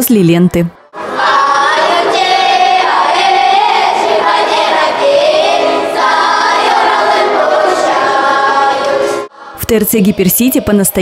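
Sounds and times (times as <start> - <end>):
children's choir singing: 1.0 - 11.0.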